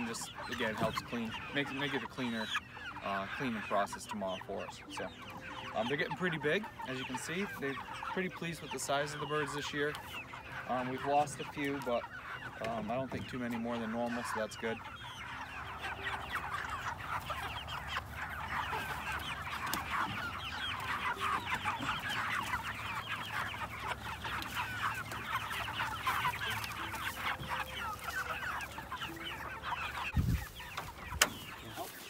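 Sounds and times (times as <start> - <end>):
flock of chickens calling: 0.0 - 32.0.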